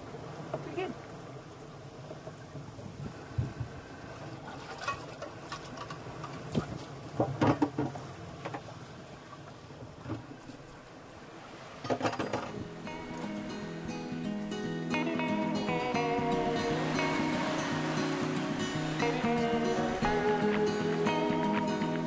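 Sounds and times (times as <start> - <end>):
rush of wind and water: 0.0 - 22.0.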